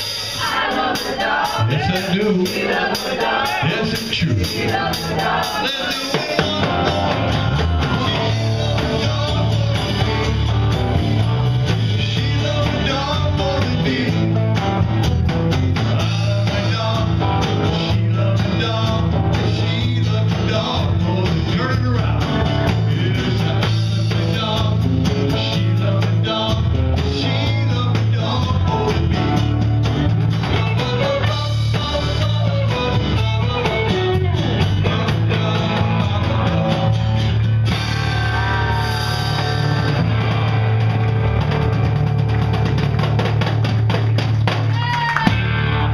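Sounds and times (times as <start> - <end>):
live band music: 0.0 - 45.9
electric bass line: 3.3 - 45.9.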